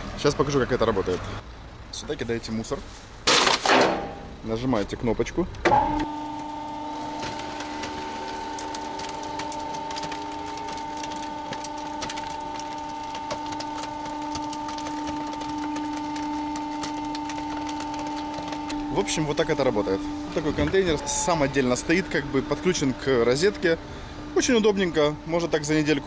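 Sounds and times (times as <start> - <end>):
waste compactor humming: 0.0 - 26.0
rubbish cracking and clicking: 3.2 - 26.0.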